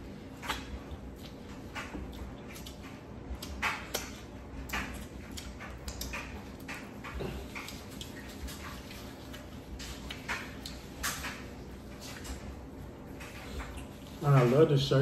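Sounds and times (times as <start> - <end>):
wet chewing clicks and crackles: 0.0 - 14.6.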